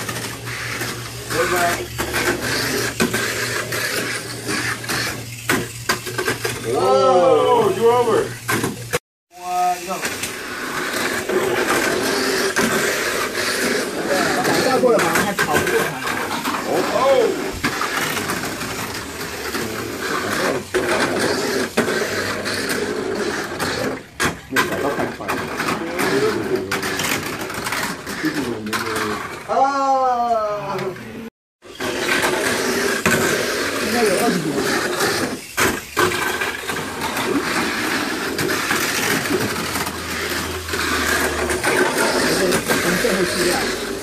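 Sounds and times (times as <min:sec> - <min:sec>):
small electric motors whirring: 0:00.0 - 0:44.0
toy cars rattling on track: 0:00.0 - 0:44.0.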